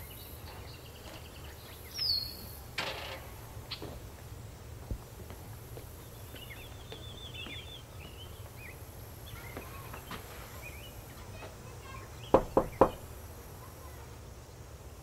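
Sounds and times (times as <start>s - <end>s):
faint footsteps on pavement: 0.0s - 2.4s, 3.3s - 13.1s
small birds chirping: 0.0s - 2.7s, 5.0s - 14.8s.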